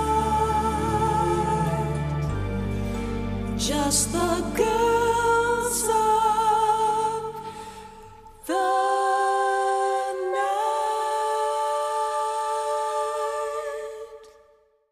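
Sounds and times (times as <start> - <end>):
low musical accompaniment: 0.0 - 14.1
women singing sustained notes: 0.0 - 14.7.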